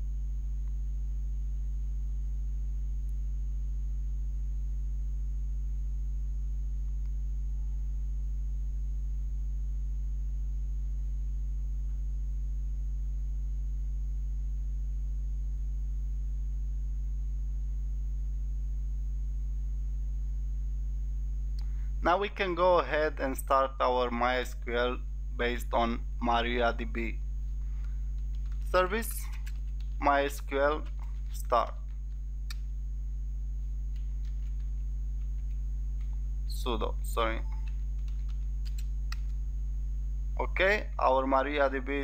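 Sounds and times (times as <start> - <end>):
faint high-pitched whine: 0.0 - 42.0
low electrical hum: 0.0 - 42.0.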